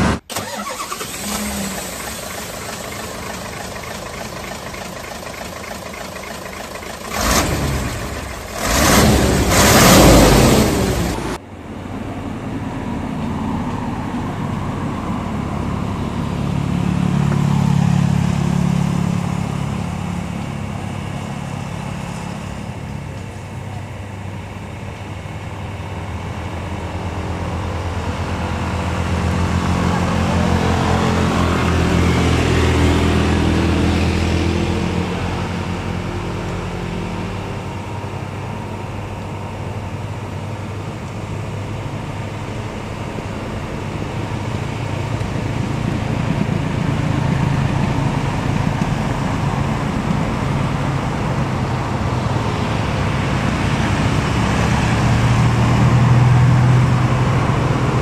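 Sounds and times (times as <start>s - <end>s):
truck diesel engine labouring: 0.0s - 58.0s.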